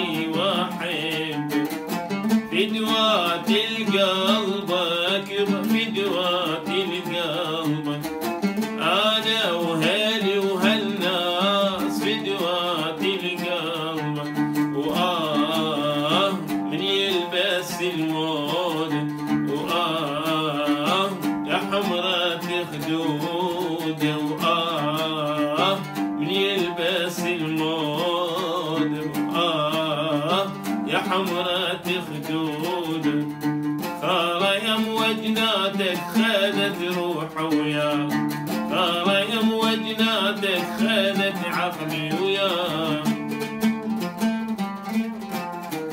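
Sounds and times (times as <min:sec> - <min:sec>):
man singing: 0:00.0 - 0:45.6
oud playing: 0:00.0 - 0:45.9.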